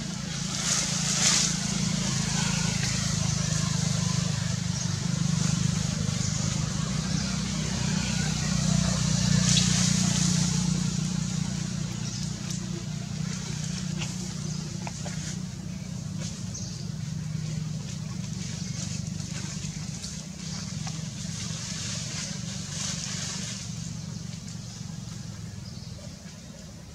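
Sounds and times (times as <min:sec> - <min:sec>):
low engine drone: 0:00.0 - 0:26.9.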